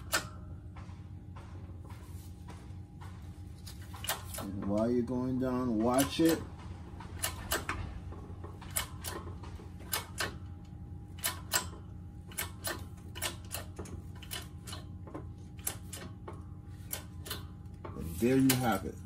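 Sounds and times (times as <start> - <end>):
hydraulic press clicks: 0.0 - 1.4, 3.7 - 18.9
steady low hum: 0.0 - 19.0.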